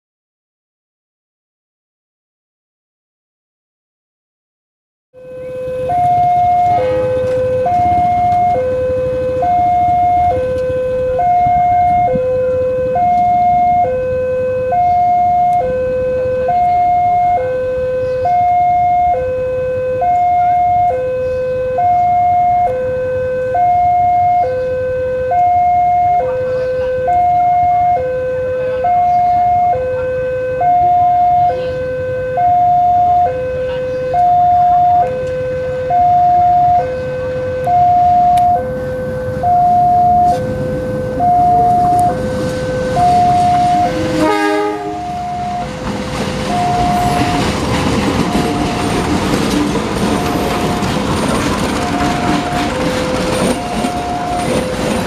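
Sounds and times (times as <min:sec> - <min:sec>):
two-tone level crossing alarm: 0:05.2 - 0:55.0.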